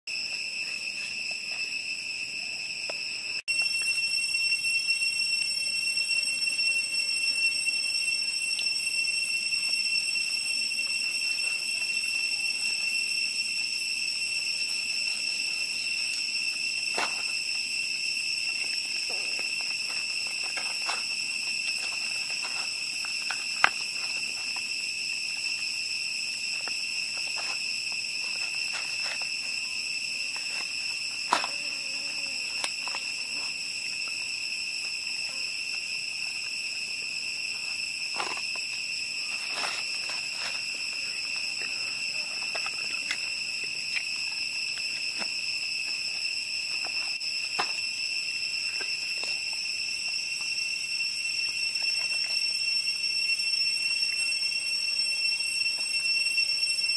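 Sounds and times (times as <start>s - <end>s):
insects droning: 0.1s - 56.9s.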